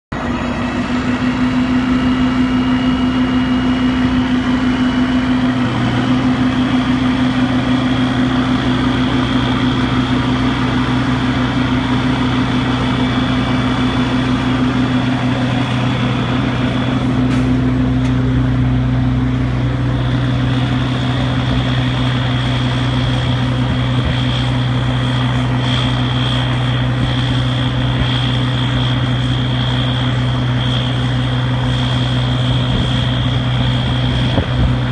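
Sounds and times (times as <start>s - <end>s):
truck engine running under load: 0.1s - 34.9s.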